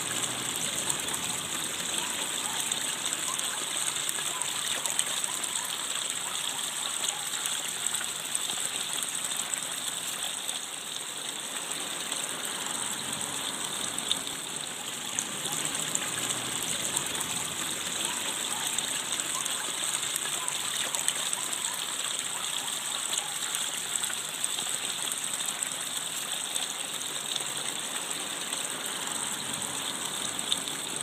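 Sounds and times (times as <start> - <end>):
running water rushing: 0.0 - 31.0.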